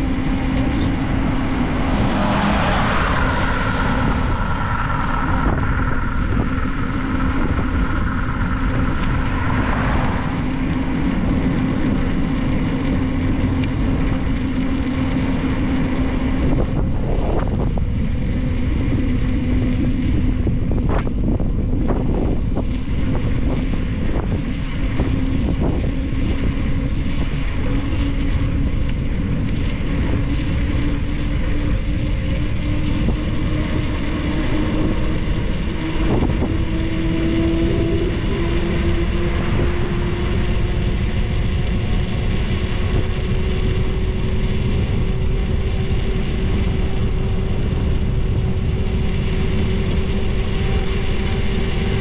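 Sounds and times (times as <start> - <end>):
low hum: 0.0 - 52.0
wind buffeting microphone: 0.0 - 52.0.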